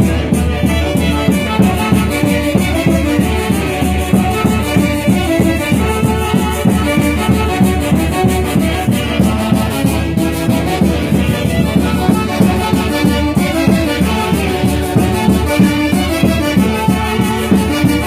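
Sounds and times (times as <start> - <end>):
folk band music: 0.0 - 18.0.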